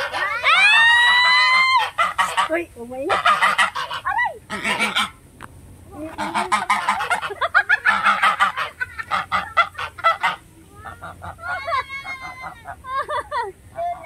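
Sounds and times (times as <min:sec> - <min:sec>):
geese honking: 0:00.0 - 0:05.2, 0:06.0 - 0:12.9.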